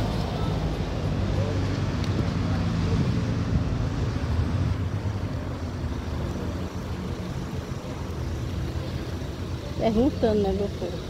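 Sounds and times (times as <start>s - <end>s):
car engine running close by: 0.0s - 11.0s
steady road noise: 0.0s - 11.0s.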